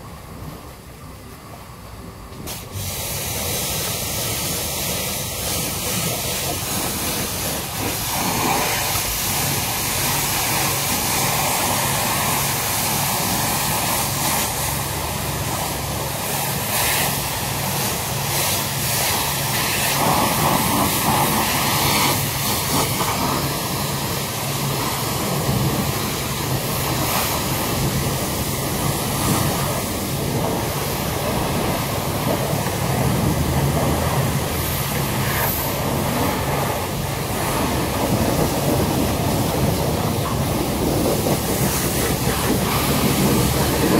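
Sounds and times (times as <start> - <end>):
pressure washer water jet hissing: 2.4 - 43.9.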